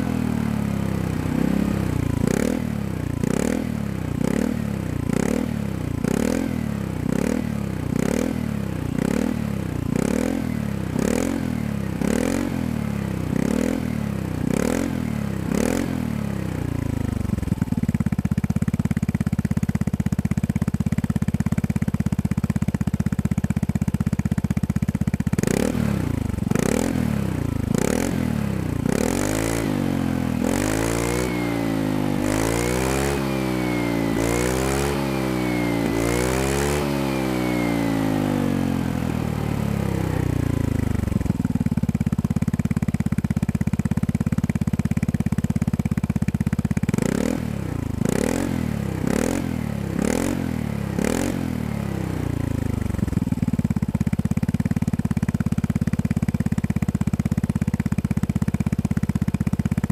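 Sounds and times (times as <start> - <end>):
scooter engine revving and idling: 0.0 - 59.9.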